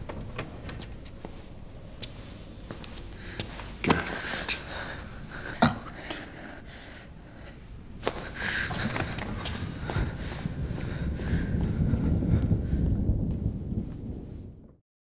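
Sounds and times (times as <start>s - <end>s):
rush of noise: 1.4s - 14.5s.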